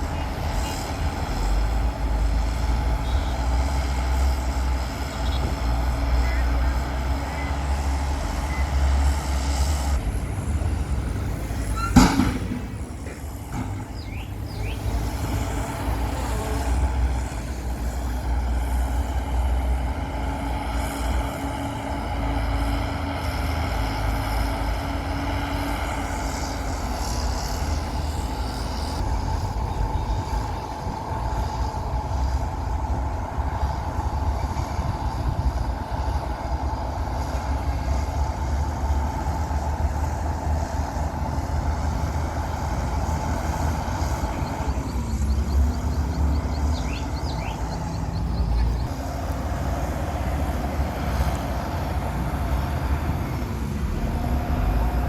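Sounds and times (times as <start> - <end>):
heavy diesel engines rumbling: 0.0 - 55.0.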